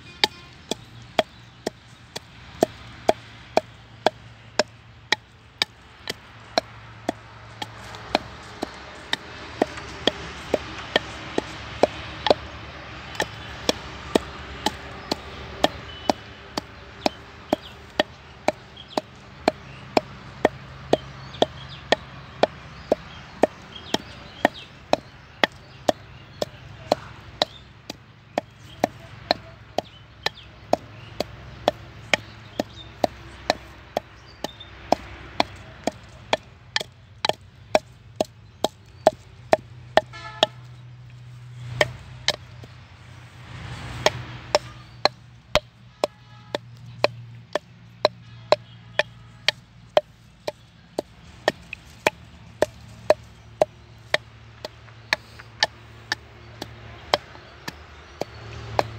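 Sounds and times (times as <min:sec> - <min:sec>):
wooden pestle pounding in mortar: 0:00.0 - 0:58.9.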